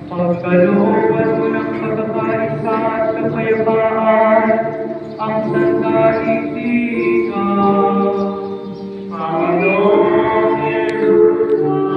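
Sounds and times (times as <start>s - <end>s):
voices singing a hymn: 0.0s - 11.9s.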